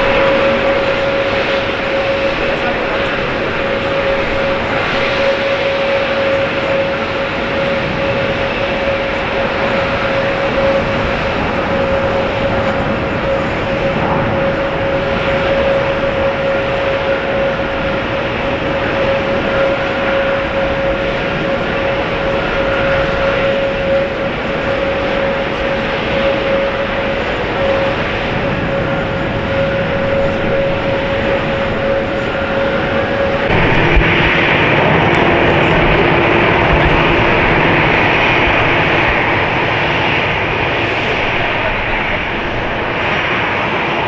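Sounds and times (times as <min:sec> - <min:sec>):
jet engine whine: 0:00.0 - 0:44.0
jet engines rushing: 0:00.0 - 0:44.0.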